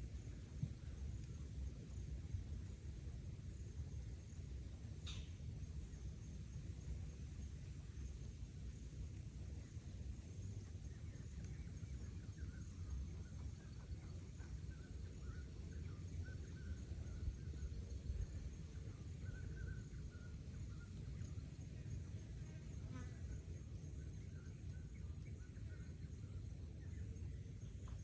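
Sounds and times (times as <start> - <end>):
wind rumble on microphone: 0.0 - 22.7.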